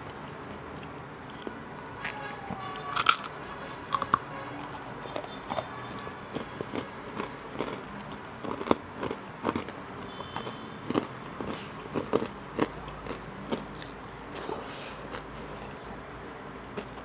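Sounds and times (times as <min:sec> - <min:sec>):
crunchy pork rinds being chewed: 0:00.0 - 0:15.8, 0:16.6 - 0:17.0.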